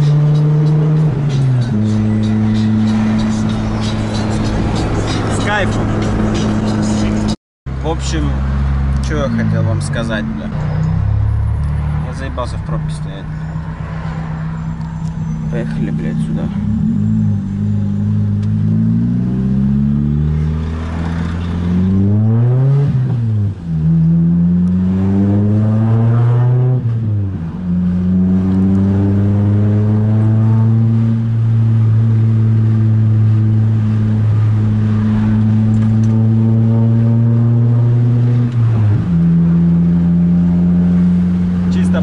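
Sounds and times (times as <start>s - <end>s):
car engine accelerating through gears: 0.0s - 7.4s, 8.4s - 42.0s.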